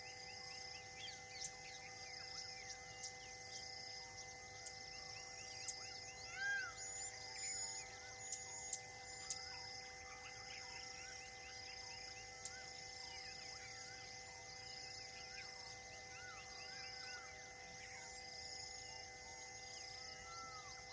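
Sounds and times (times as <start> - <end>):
steady high insect drone: 0.0 - 20.9.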